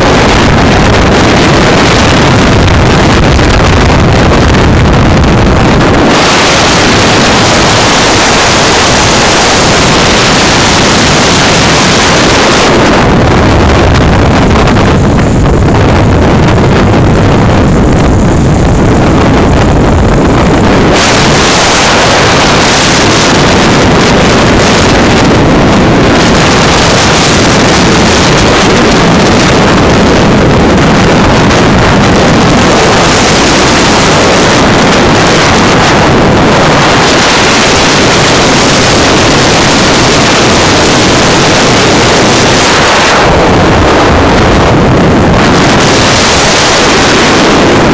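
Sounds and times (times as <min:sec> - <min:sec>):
vehicle and road noise: 0:00.0 - 0:47.9
wind buffeting microphone: 0:00.0 - 0:47.9.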